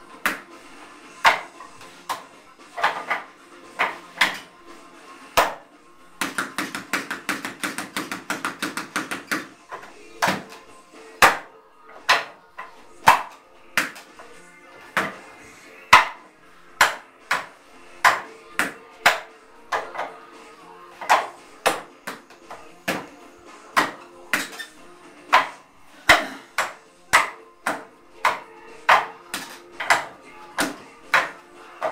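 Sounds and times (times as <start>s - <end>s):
faint background music: 0.0s - 31.9s.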